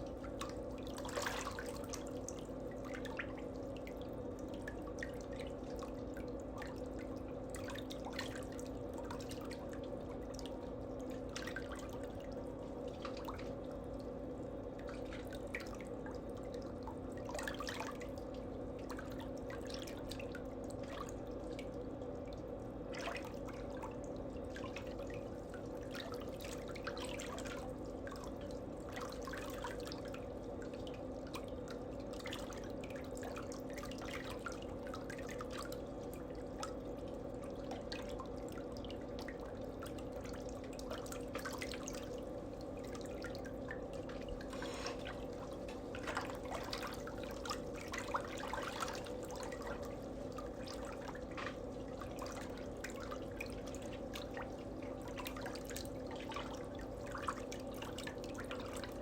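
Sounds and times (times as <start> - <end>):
steady low hum: 0.0 - 59.0
water dripping and splashing: 0.0 - 59.0.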